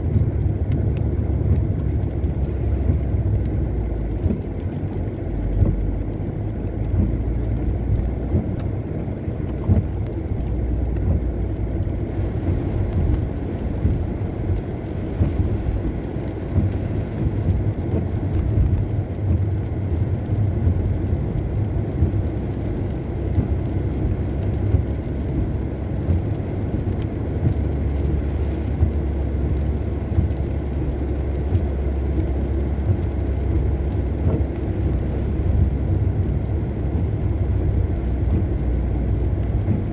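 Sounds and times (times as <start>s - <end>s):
car engine and tyres rumbling: 0.0s - 39.9s
hiss of spray and rain: 0.0s - 39.9s.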